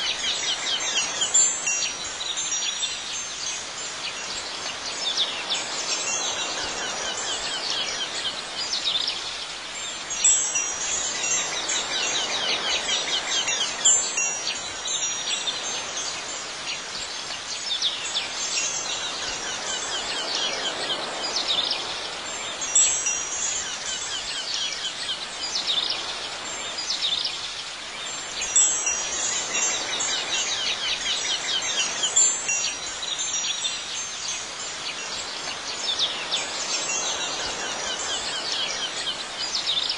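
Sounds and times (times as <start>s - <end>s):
wind chimes ringing: 0.0s - 27.4s, 28.0s - 39.9s
steady hiss: 0.0s - 39.9s.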